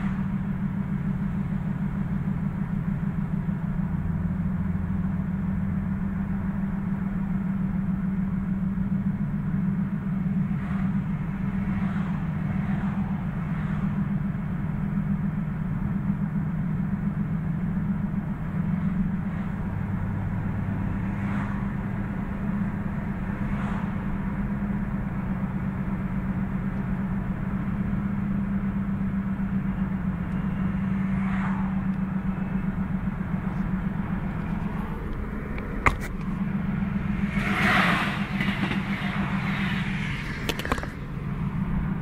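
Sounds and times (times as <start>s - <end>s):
car driving with low drone: 0.0s - 42.0s
road noise: 0.0s - 42.0s.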